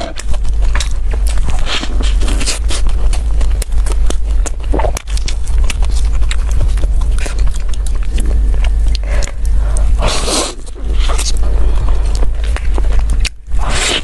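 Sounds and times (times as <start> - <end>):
bread tearing rustle: 0.0 - 14.0
chewing bread with mouth clicks: 0.0 - 14.0
steady low hum: 0.0 - 14.0.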